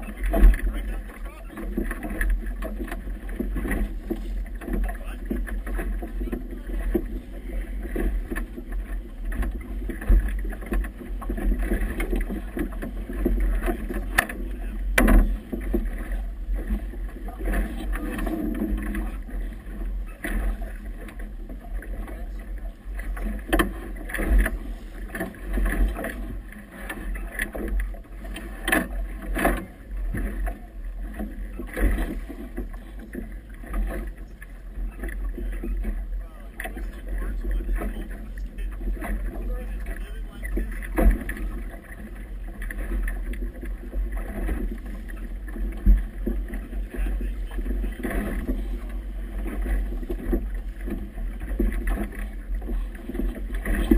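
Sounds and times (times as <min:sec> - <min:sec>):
water slapping boat hull: 0:00.0 - 0:53.9.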